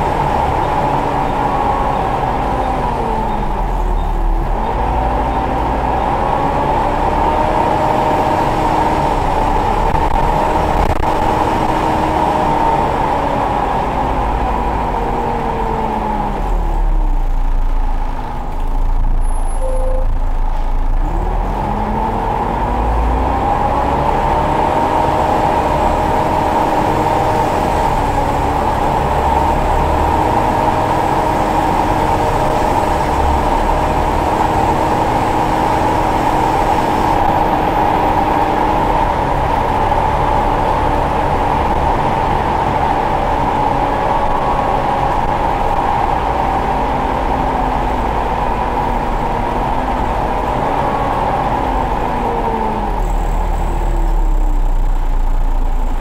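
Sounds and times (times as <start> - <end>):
bus engine whine: 0.0 - 56.0.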